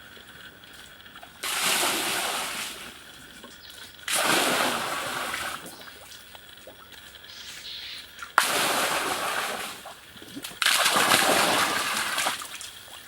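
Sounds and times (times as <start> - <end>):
water splashes: 1.2 - 7.2, 8.1 - 13.0.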